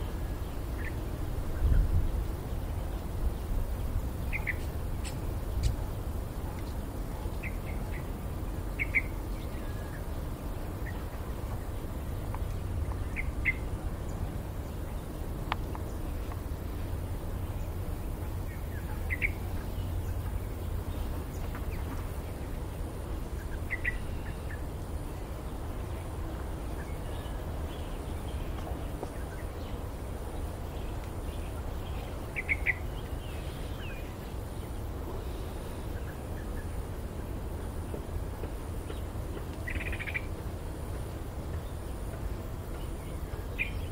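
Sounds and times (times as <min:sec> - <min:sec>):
low background rumble: 0:00.0 - 0:43.9.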